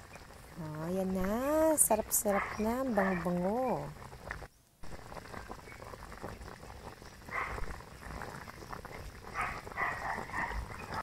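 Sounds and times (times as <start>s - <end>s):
soup bubbling at full boil: 0.0s - 11.0s.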